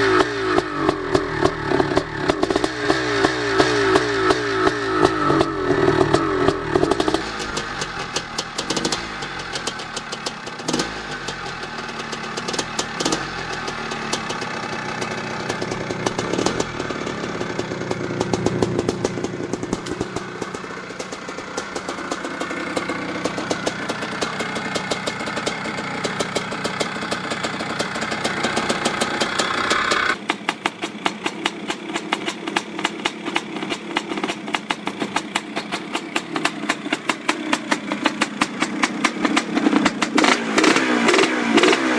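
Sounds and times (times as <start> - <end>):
dirt bike engines revving: 0.0 - 30.2, 33.4 - 41.9
motorbike engine rapid popping: 0.0 - 41.9.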